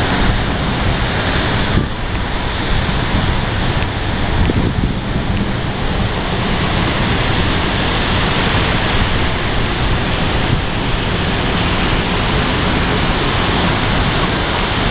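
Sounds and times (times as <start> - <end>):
rain: 0.0 - 14.9
storm wind: 0.0 - 14.9
wind buffeting the microphone: 0.0 - 14.9.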